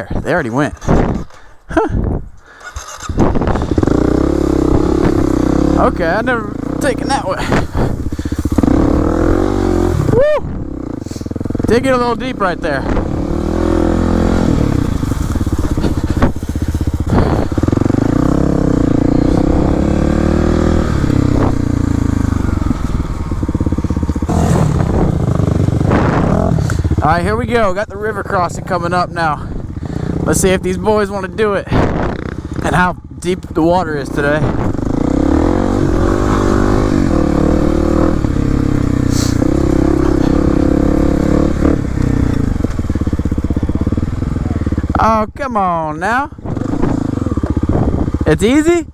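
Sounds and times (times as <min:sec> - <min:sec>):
dirt bike engine revving: 0:02.5 - 0:48.9.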